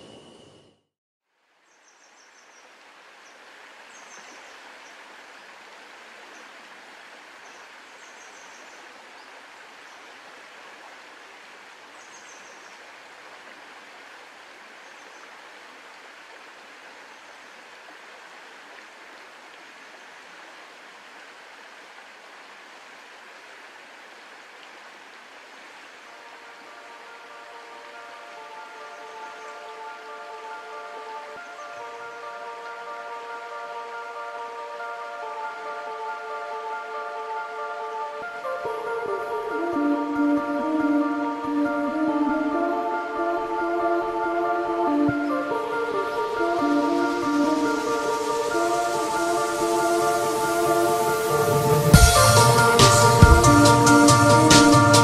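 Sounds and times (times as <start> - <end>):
river flowing over stones: 1.4 - 55.0.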